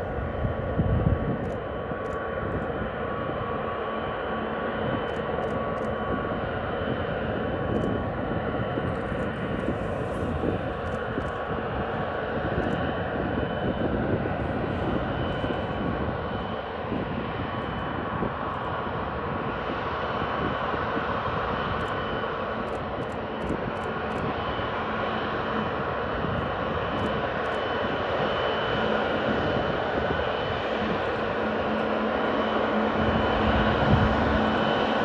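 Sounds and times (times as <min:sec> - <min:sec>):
faint engine whine: 0:00.0 - 0:35.0
jet engines running: 0:00.0 - 0:35.0.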